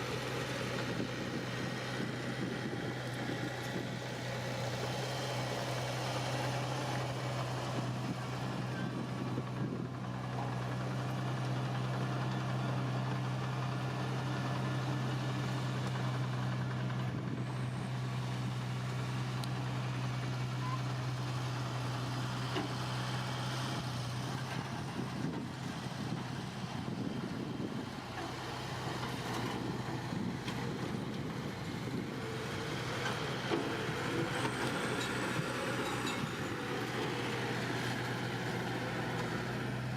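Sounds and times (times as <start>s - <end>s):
diesel engine running: 0.0s - 39.9s
low engine hum: 0.0s - 39.9s.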